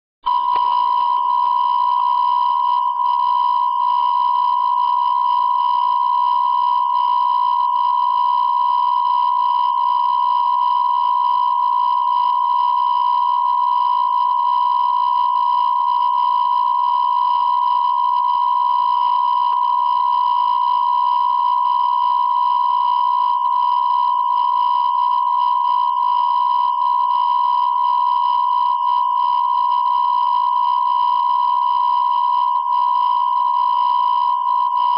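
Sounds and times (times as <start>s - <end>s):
steady electronic beep tone: 0.3s - 34.9s.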